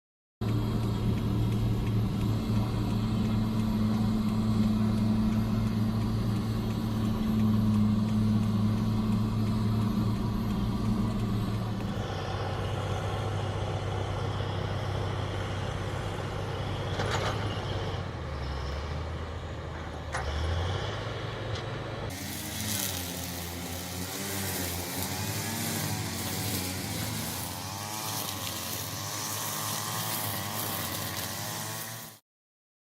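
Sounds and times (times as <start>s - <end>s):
heavy machinery engines running: 0.4s - 32.2s.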